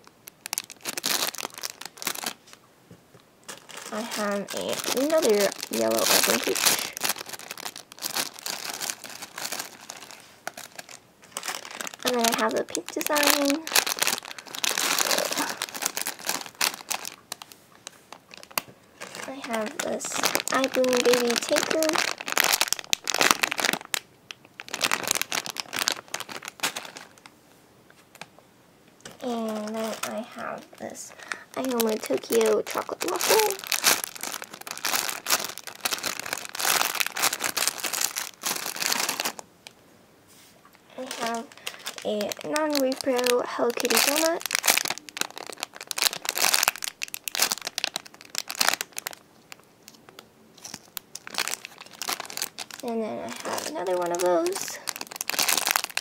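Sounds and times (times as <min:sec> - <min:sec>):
squishy toy crinkling: 0:00.0 - 0:02.6, 0:03.4 - 0:27.3, 0:29.1 - 0:39.8, 0:40.7 - 0:56.0.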